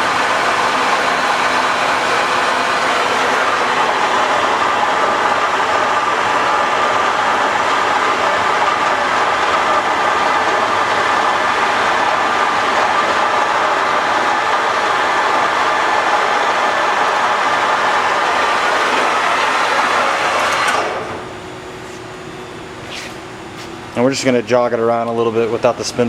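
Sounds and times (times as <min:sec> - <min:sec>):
lathe running with faint whine: 0:00.0 - 0:26.0.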